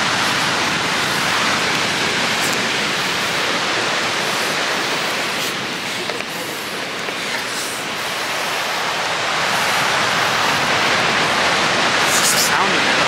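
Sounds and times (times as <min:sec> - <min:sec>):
rough ocean surf breaking: 0:00.0 - 0:13.0.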